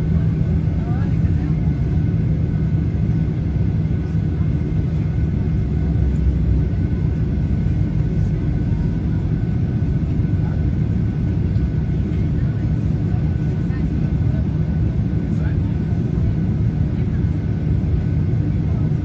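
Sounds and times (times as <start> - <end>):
helicopter drone: 0.0 - 19.0.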